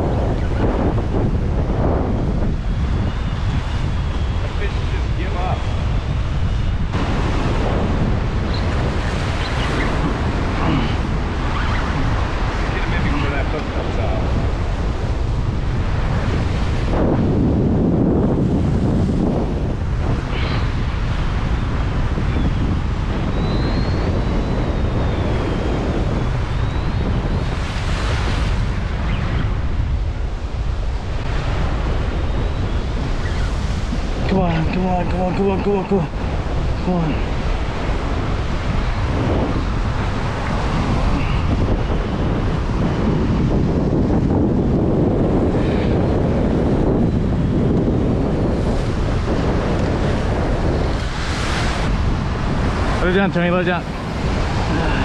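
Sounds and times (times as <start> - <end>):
surf washing against rocks: 0.0 - 23.2, 27.0 - 55.0
wind buffeting microphone: 0.0 - 55.0.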